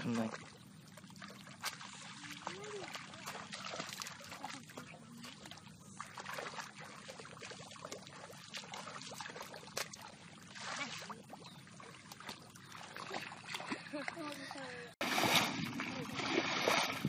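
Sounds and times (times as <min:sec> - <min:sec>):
children splashing through water: 0:00.0 - 0:17.0.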